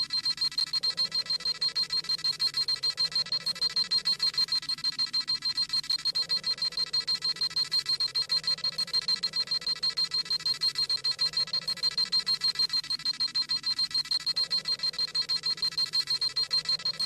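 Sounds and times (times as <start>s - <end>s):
rapid high-pitched electronic beeping: 0.0s - 17.0s.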